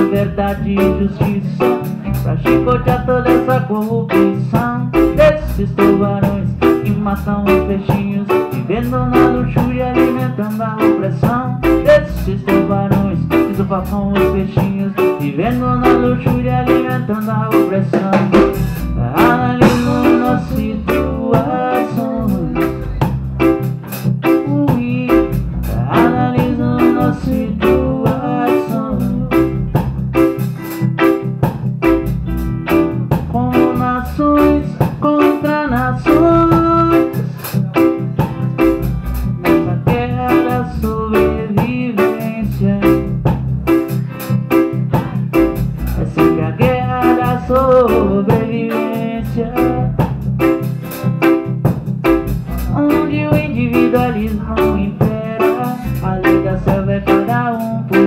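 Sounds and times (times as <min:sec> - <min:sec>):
live band playing: 0:00.0 - 0:58.0.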